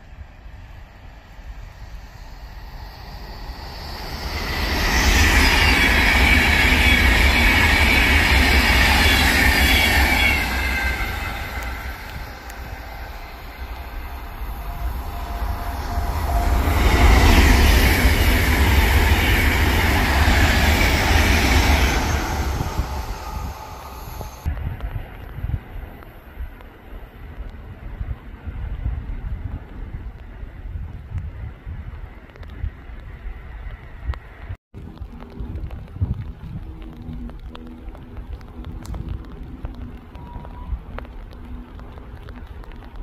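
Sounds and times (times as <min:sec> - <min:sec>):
electric trains passing at speed: 0:00.0 - 0:43.0.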